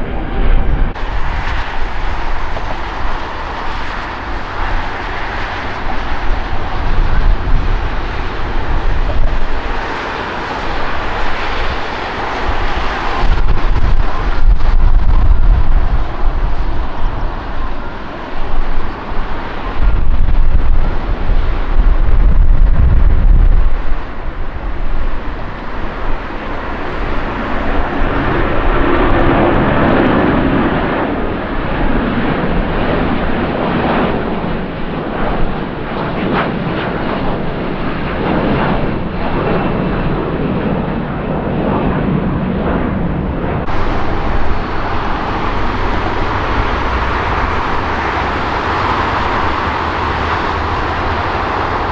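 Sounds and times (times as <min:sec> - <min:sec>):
jet airliner engine noise: 0:00.0 - 0:51.9
wind buffeting microphone: 0:00.0 - 0:51.9.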